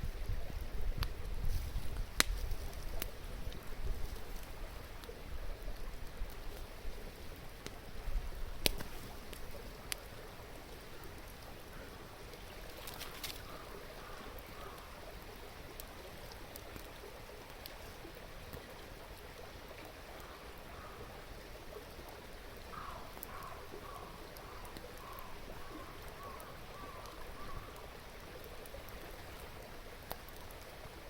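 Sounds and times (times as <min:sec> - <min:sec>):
wood fire popping and crackling: 0:00.0 - 0:20.7, 0:22.8 - 0:31.0
river murmuring: 0:01.8 - 0:31.0.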